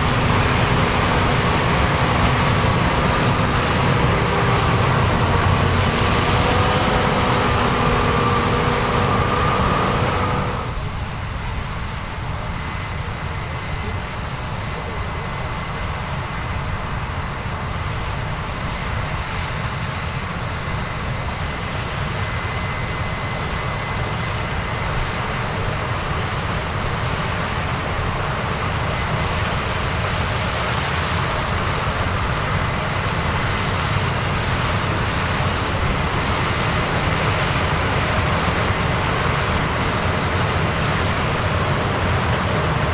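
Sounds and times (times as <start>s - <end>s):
loud steady humming: 0.0s - 15.9s, 21.6s - 42.9s
combine harvester running: 0.0s - 42.9s.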